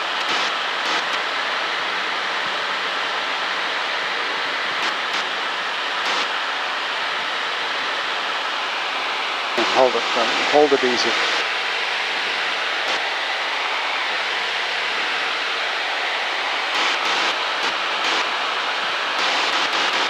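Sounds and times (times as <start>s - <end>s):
airplane engine and propeller drone: 0.0s - 20.0s.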